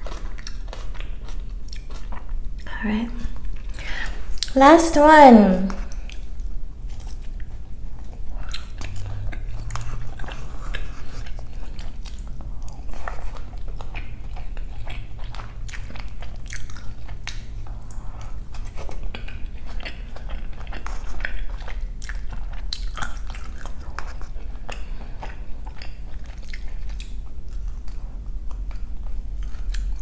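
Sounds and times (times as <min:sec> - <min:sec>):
person chewing food: 0:00.0 - 0:02.7, 0:05.9 - 0:30.0.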